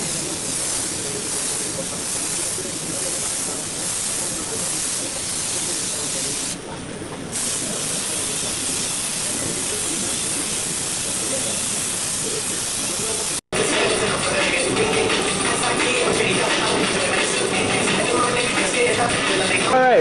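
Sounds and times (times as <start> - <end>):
paint spray gun hissing: 0.0 - 6.6, 7.3 - 19.5.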